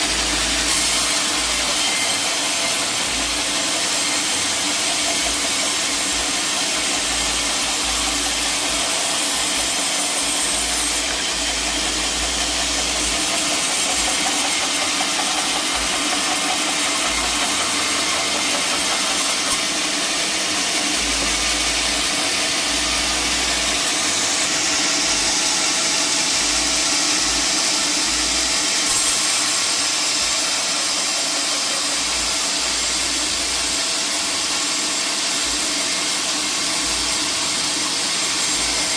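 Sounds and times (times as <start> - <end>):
sawmill saw cutting a log: 0.0 - 38.9.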